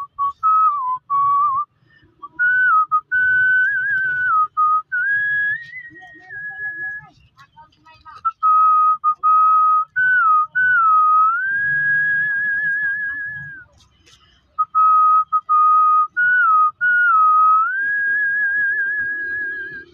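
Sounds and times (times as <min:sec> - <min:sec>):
man whistling a tune: 0:00.0 - 0:07.1, 0:08.3 - 0:13.7, 0:14.6 - 0:19.9.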